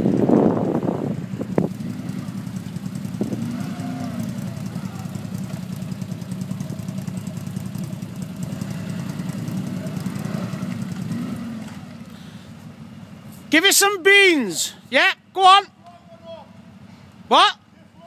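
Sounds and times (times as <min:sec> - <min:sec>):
quad bike engine running: 0:00.0 - 0:14.8.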